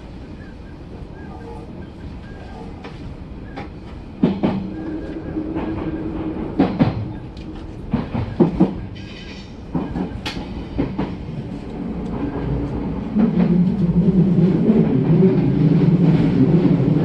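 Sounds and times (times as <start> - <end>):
train rumble: 0.0 - 17.0
wheels clacking over rail joints: 1.4 - 17.0.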